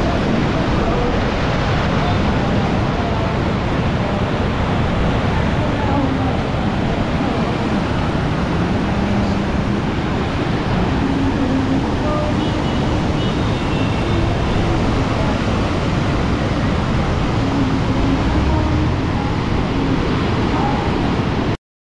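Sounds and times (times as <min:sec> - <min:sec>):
water rushing through sluice gate: 0:00.0 - 0:21.6.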